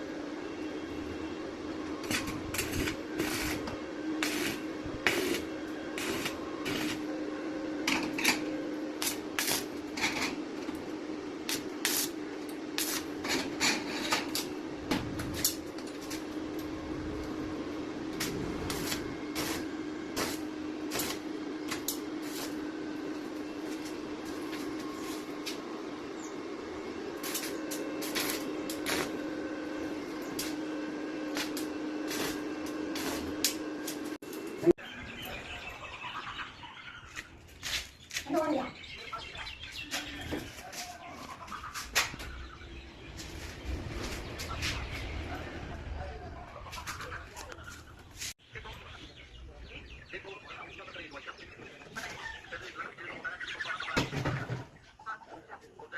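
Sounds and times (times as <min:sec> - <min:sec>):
machine hum: 0:00.0 - 0:53.1.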